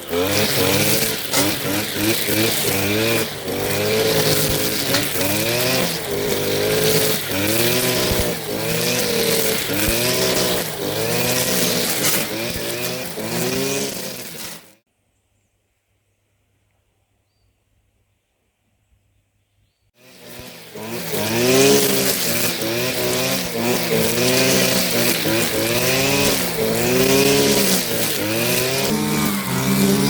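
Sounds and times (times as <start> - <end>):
line trimmer engine revving: 0.0 - 14.8, 20.0 - 30.0.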